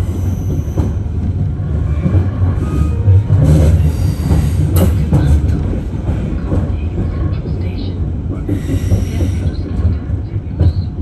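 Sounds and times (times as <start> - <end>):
sharp clacks of train wheels: 0.0 - 11.0
train rumbling inside carriage: 0.0 - 11.0.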